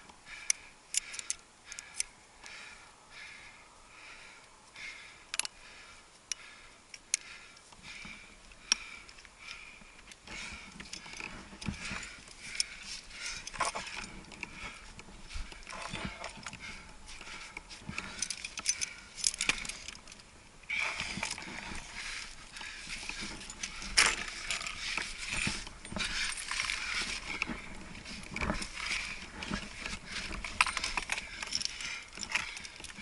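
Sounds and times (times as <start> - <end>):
climbing gear clinking: 0.0 - 2.6, 6.3 - 33.0
rope rustling: 5.8 - 33.0.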